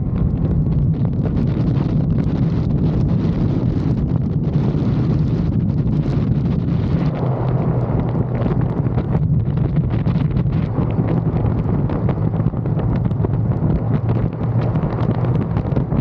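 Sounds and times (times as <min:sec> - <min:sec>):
low engine drone: 0:00.0 - 0:16.0
wind buffeting microphone: 0:00.0 - 0:16.0.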